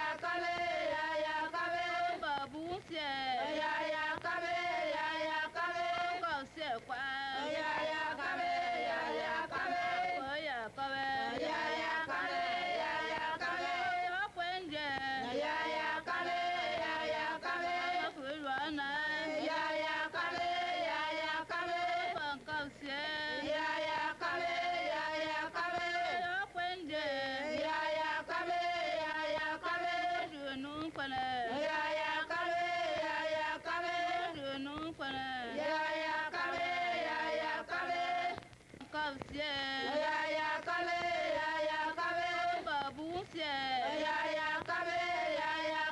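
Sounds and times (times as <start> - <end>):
voices singing: 0.0 - 45.9.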